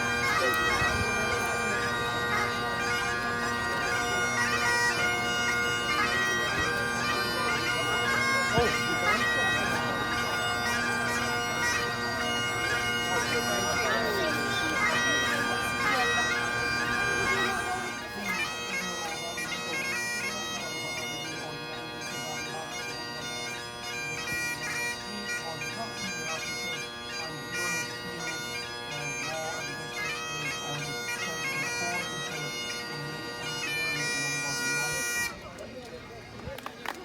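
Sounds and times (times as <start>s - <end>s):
bagpipe chanter melody: 0.0s - 36.2s
bagpipe drone: 0.0s - 36.9s.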